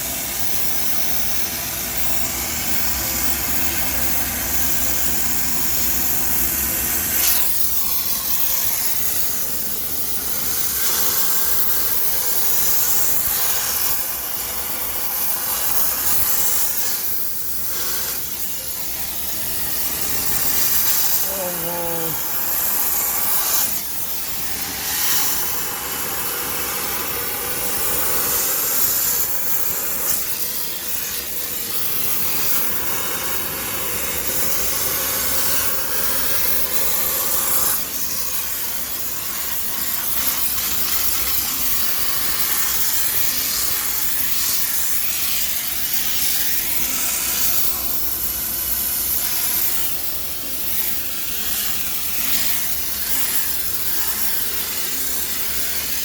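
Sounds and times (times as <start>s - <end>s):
steam jet hissing: 0.0s - 56.0s.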